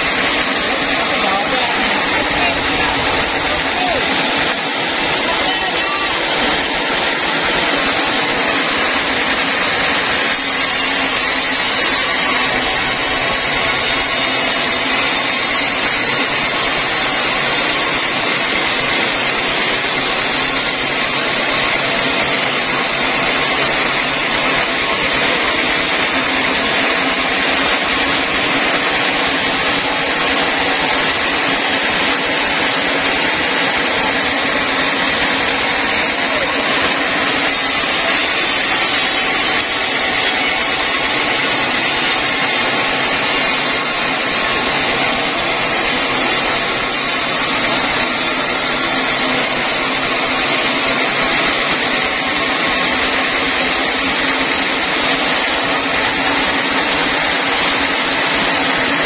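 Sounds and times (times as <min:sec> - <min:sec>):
band saw cutting timber: 0:00.0 - 0:59.0.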